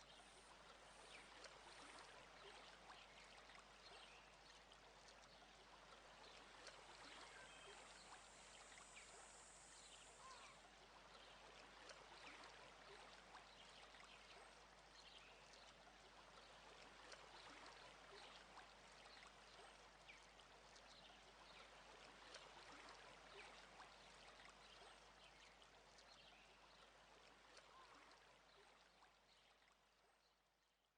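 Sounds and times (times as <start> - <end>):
trickling water: 0.0 - 30.4
small water drips: 0.0 - 30.5.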